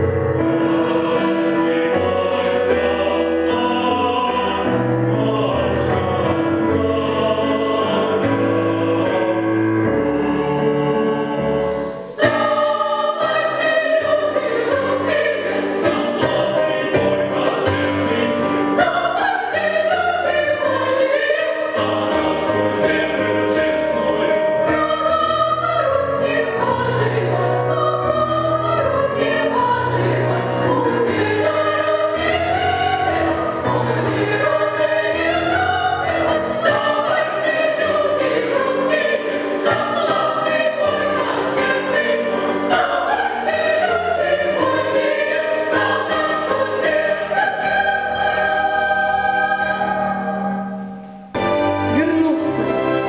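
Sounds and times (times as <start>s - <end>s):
mixed choir singing: 0.0s - 53.0s.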